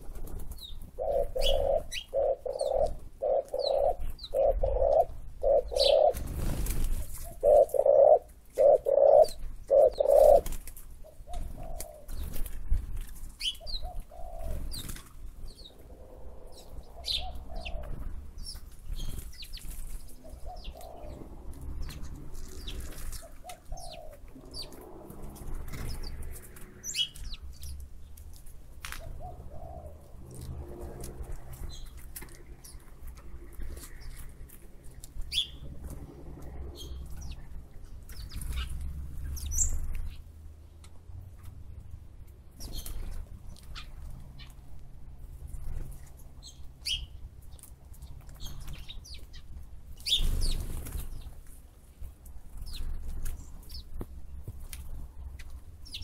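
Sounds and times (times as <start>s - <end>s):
birds chirping: 0.0s - 12.5s, 13.3s - 30.2s, 31.5s - 40.8s, 42.5s - 44.7s, 45.6s - 51.4s, 52.5s - 56.0s.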